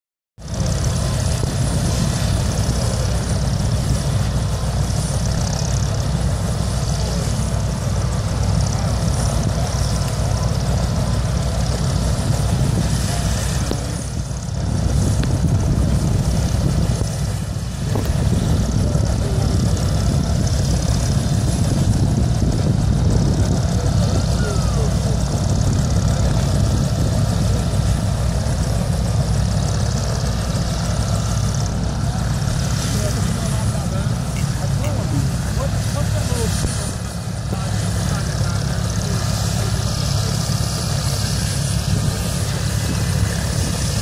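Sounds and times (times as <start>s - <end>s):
helicopter engine and rotor: 0.4s - 44.0s.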